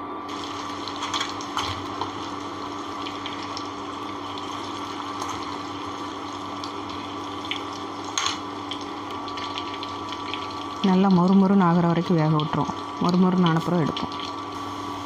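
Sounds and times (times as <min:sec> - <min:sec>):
food sizzling in hot oil: 0:00.3 - 0:15.0.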